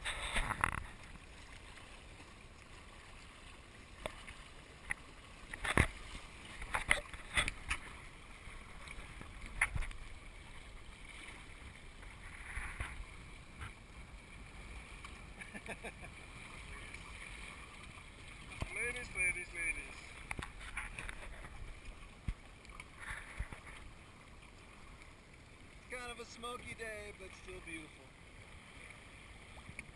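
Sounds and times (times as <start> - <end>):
low wash of wind and water: 0.0 - 29.9
water splashing against kayak hull: 0.0 - 29.9.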